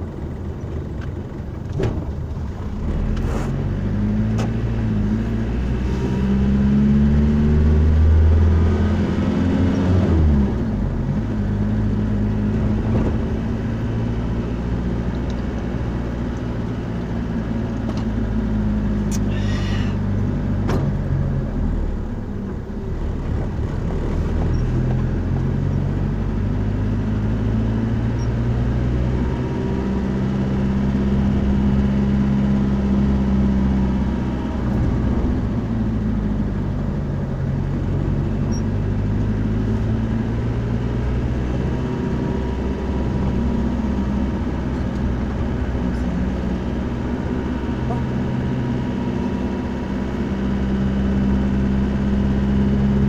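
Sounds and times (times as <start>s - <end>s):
vehicle engine driving: 0.0s - 53.0s.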